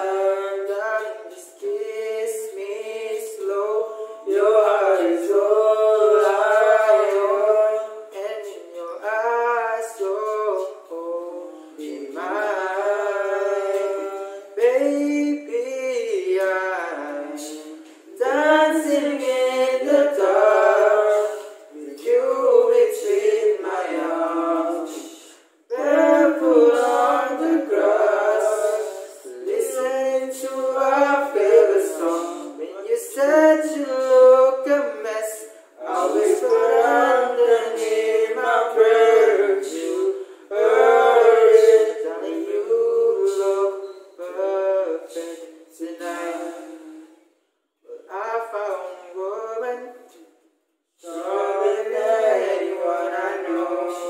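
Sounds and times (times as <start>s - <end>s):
group singing a cappella: 0.0s - 54.0s.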